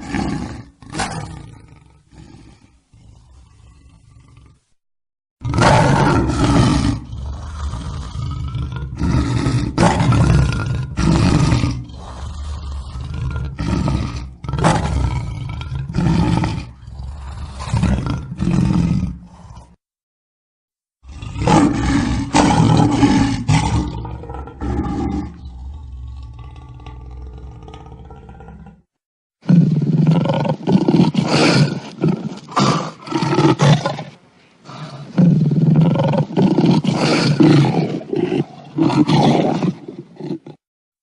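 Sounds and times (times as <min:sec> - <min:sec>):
lion roaring and grunting: 0:00.0 - 0:04.7, 0:05.4 - 0:19.8, 0:21.0 - 0:40.6.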